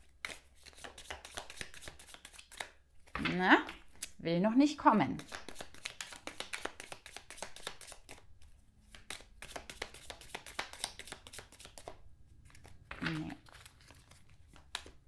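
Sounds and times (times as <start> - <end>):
cards being shuffled: 0.1 - 4.2, 5.2 - 8.2, 8.9 - 15.0.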